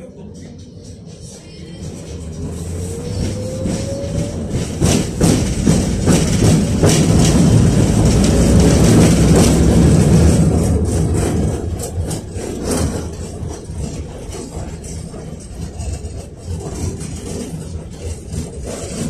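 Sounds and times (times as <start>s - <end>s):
tram wheels rumbling on rails: 0.0s - 19.0s
wheels clacking over rail joints: 0.2s - 19.0s.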